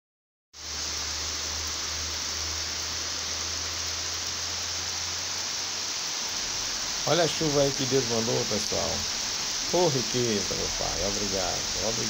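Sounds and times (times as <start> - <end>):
heavy rain falling: 0.6 - 12.0.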